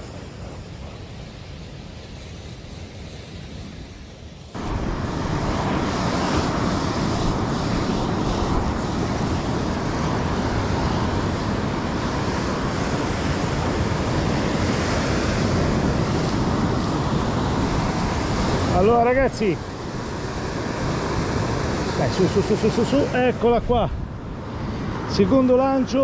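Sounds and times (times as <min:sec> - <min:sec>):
waves breaking on sandy beach: 0:00.0 - 0:26.0
wind on microphone: 0:00.0 - 0:26.0.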